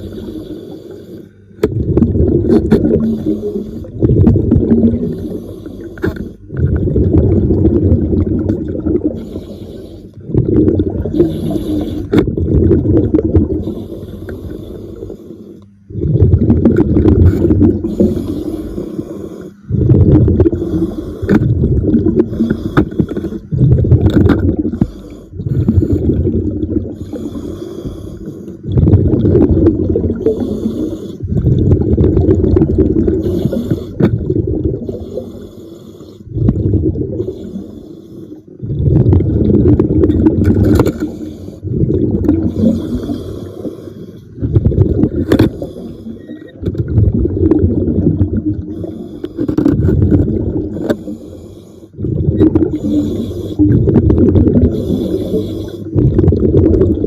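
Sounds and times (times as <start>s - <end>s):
diver exhaling bubbles underwater: 0.0s - 35.5s, 36.2s - 37.8s, 38.5s - 51.3s, 51.9s - 57.0s.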